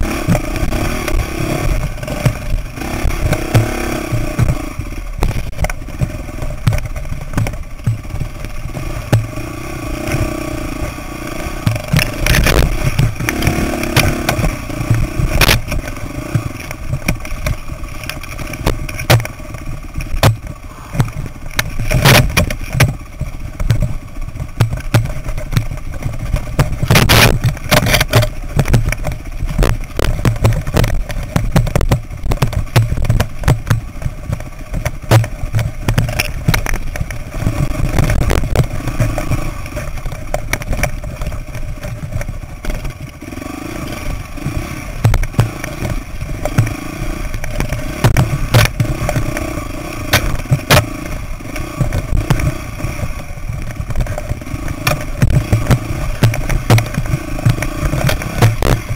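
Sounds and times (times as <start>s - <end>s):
dirt bike engine: 0.0s - 58.9s
bike clattering over rocks: 0.1s - 9.4s, 11.5s - 43.3s, 44.1s - 58.9s.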